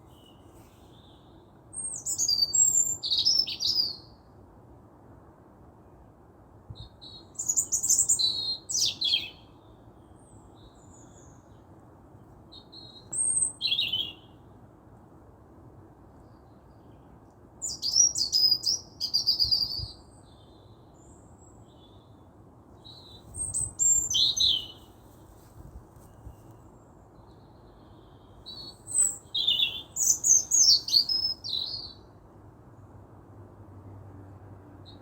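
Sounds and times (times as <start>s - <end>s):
songbird chirping: 0.0s - 4.2s, 6.8s - 14.5s, 16.0s - 32.2s
faint background hiss: 0.0s - 35.0s.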